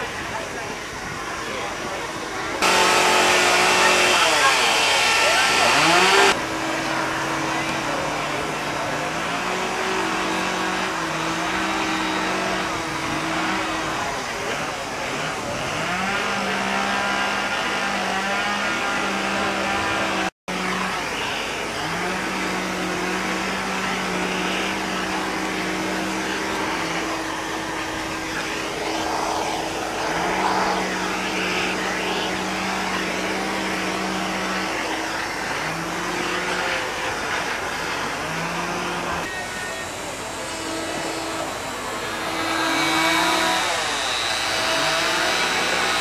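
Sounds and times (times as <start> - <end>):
chainsaw steady high pitch: 0.0 - 46.0
chainsaw revving: 2.5 - 46.0.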